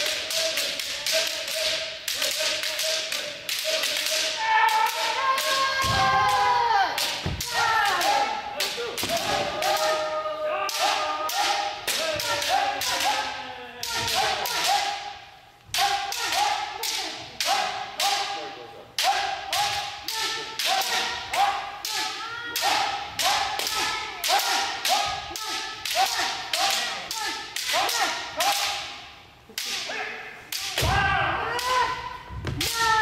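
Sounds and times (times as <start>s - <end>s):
bamboo swords striking: 0.0s - 18.4s, 19.0s - 33.0s
people shouting: 0.0s - 29.0s, 29.6s - 33.0s.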